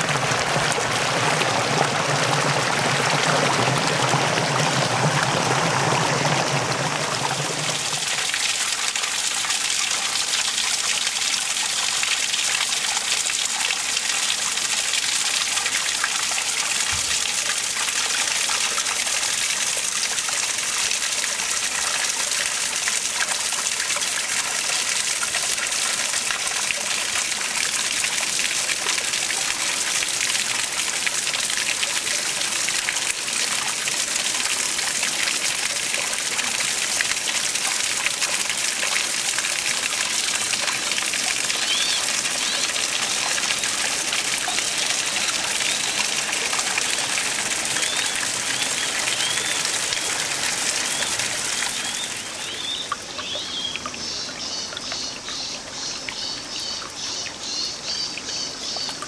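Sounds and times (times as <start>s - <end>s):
water flowing in a ditch: 0.0s - 59.0s.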